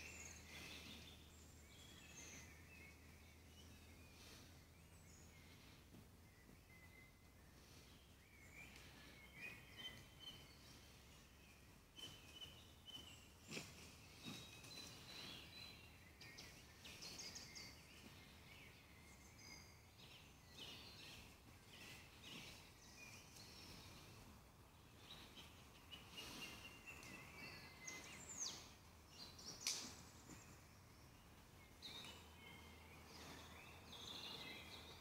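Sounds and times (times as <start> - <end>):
birds chirping and trilling: 0.0 - 35.0.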